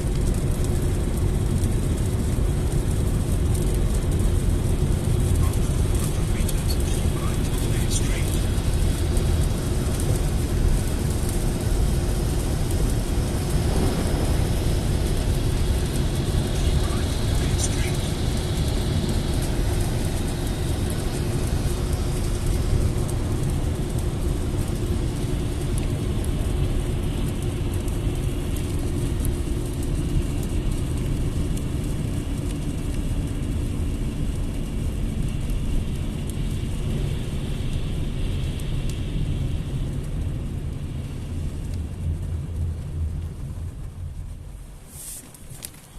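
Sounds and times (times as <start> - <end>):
vehicle low rumble: 0.0 - 45.9.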